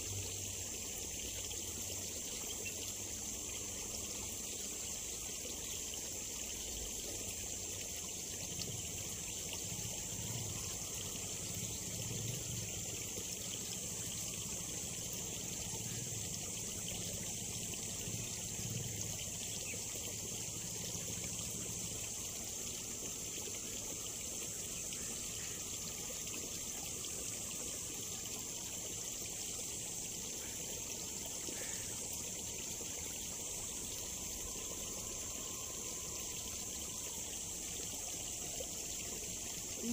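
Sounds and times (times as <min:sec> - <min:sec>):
water trickling in a ditch: 0:00.0 - 0:39.9.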